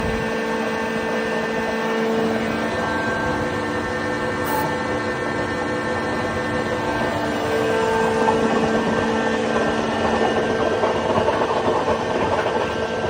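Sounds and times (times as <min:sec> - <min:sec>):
stone cutting machine drone: 0:00.0 - 0:11.0.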